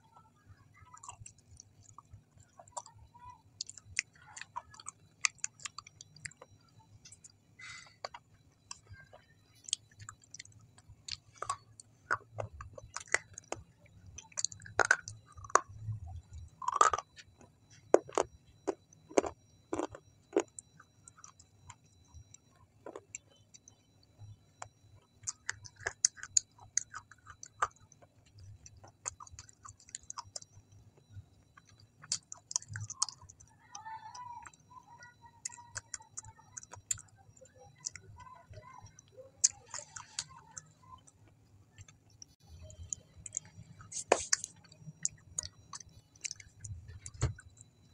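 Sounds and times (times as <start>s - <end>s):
close chewing clicks and crackles: 0.1s - 47.9s.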